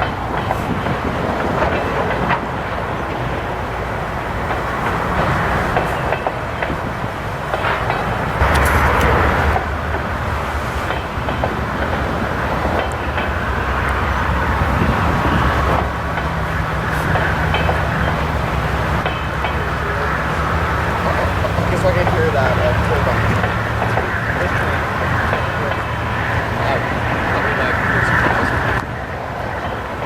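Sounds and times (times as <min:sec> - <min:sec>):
train wheels rumbling on rails: 0:00.0 - 0:30.0
low drone: 0:01.2 - 0:30.0.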